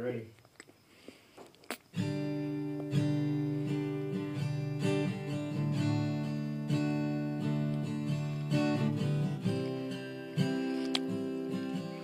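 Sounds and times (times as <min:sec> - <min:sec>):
acoustic guitar strumming chords: 0:02.0 - 0:12.0.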